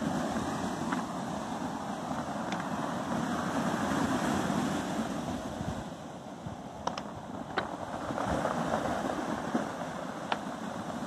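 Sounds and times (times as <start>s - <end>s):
sea surf on pebble beach: 0.0s - 11.0s
wind on microphone: 0.0s - 11.0s.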